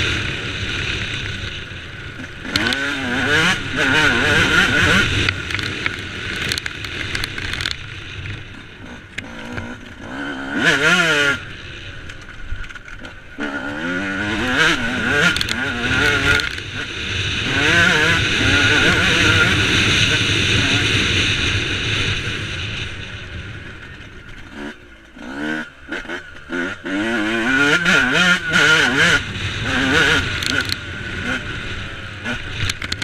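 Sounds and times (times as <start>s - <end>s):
motocross engine revving: 0.0s - 33.0s.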